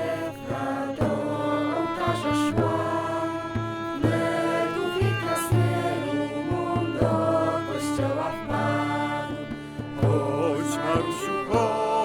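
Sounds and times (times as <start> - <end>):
sustained instruments: 0.0 - 12.0.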